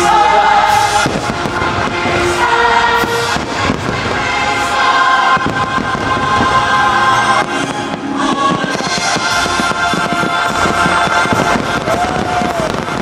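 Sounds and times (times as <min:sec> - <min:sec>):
fireworks bursting: 0:00.0 - 0:13.0
music with choir singing: 0:00.0 - 0:13.0.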